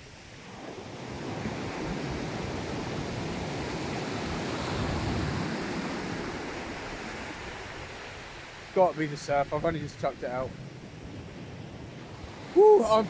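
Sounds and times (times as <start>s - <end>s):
sea surf on shore: 0.0s - 13.0s.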